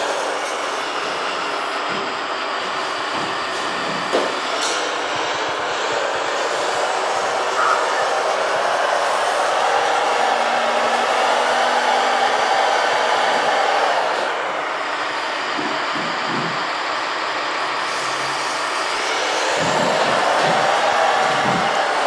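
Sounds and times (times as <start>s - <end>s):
model truck electric motors droning: 0.0s - 22.0s.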